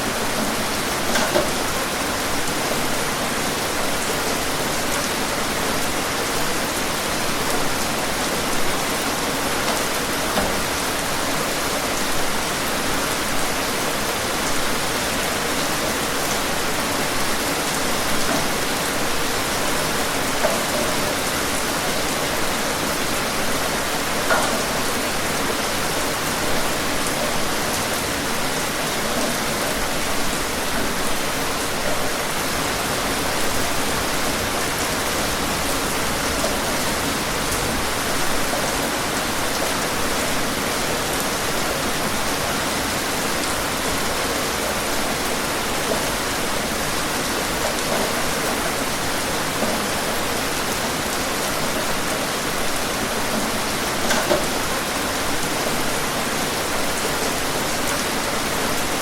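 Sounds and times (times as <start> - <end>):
dense rainfall hiss: 0.0 - 59.0.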